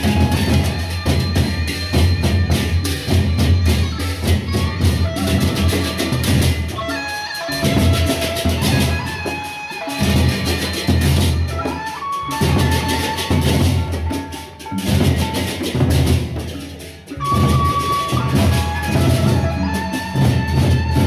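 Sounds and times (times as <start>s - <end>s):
barrel drums beaten: 0.0s - 21.0s
hand cymbals clashing: 0.0s - 21.0s.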